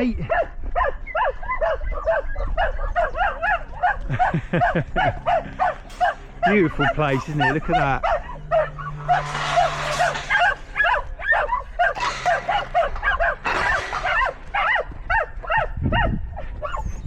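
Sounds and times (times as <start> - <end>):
dogs whining and yipping: 0.3 - 17.0.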